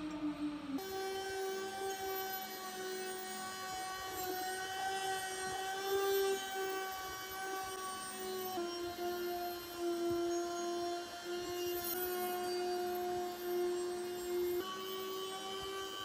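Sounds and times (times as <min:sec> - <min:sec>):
rotary tool motor whine: 0:00.0 - 0:16.0.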